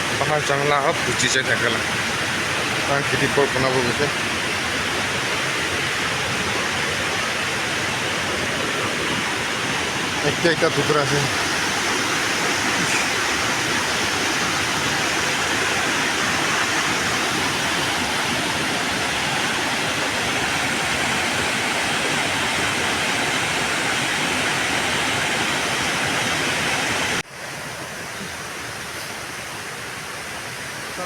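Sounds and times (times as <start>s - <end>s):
steady rushing noise: 0.0s - 25.7s.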